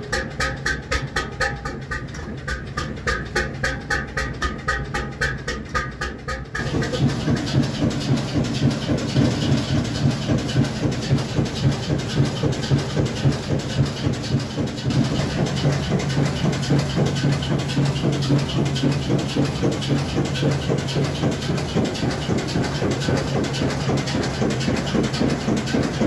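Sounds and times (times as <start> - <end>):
diesel exhaust puffing: 0.0 - 26.0
rhythmic engine clatter: 0.0 - 26.0
steady low engine hum: 0.0 - 26.0.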